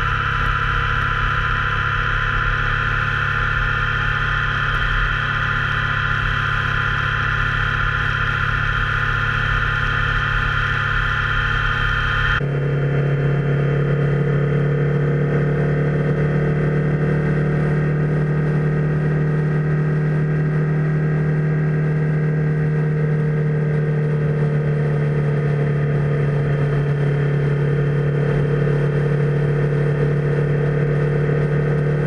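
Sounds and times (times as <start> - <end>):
motorcycle engine cruising: 0.0 - 32.0.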